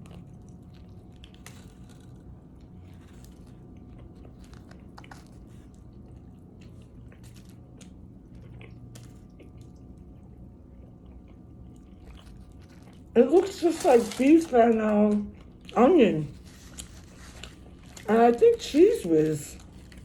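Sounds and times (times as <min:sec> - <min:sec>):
small crunches: 0:00.0 - 0:09.8, 0:11.1 - 0:20.0
person chewing food: 0:00.0 - 0:14.2, 0:15.3 - 0:18.1, 0:19.6 - 0:20.0.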